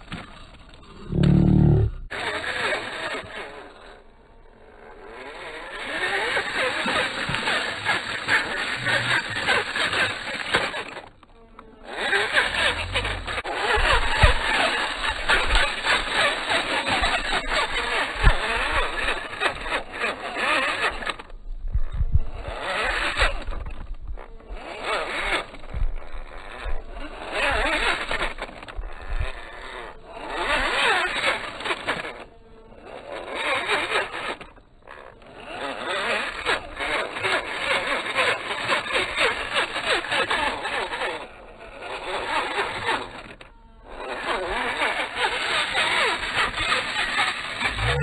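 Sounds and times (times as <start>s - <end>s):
rc car motor and drivetrain: 0.0s - 48.0s.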